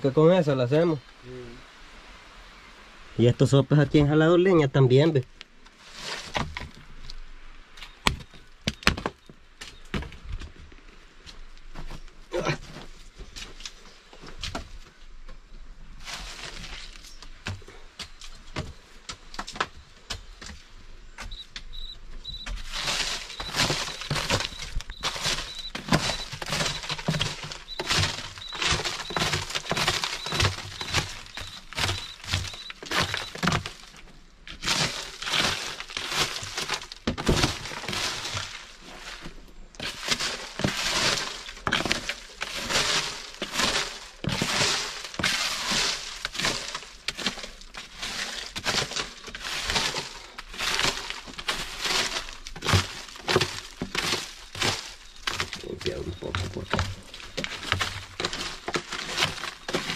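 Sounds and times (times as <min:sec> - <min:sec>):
twigs and gravel crunching: 0:03.4 - 0:59.9.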